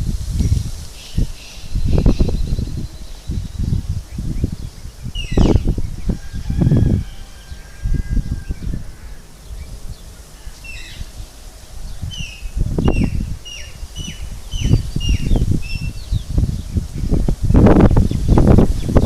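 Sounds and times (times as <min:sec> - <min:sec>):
low rustling and buffeting: 0:00.0 - 0:19.0
bird chirping: 0:00.4 - 0:17.2.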